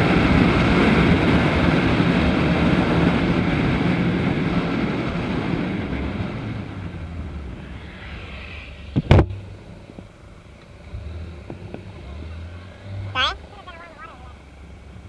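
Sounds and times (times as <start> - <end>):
motorcycle engine and rushing air: 0.0 - 13.5.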